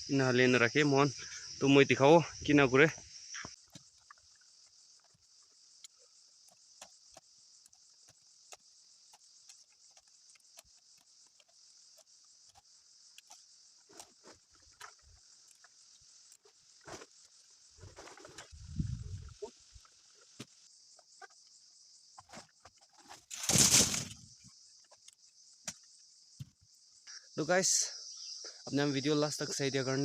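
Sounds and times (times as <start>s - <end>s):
crickets chirring: 0.0s - 30.0s.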